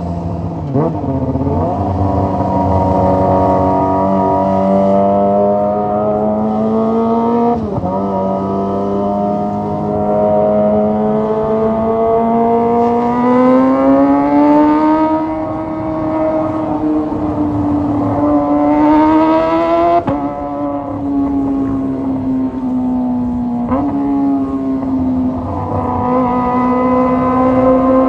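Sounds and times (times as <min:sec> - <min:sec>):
motorcycle engine at high revs: 0:00.4 - 0:28.0.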